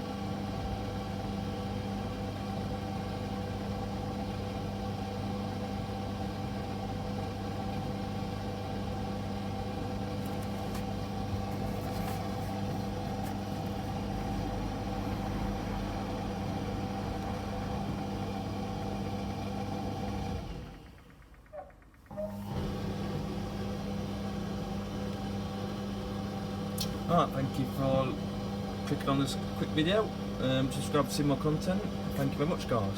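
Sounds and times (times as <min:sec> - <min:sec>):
tumble dryer motor hum: 0:00.0 - 0:32.9.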